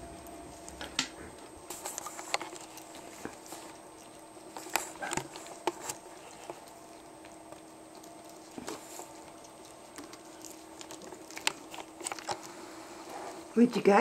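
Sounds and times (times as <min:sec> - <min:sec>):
puppies gnawing chews: 0:00.0 - 0:14.0.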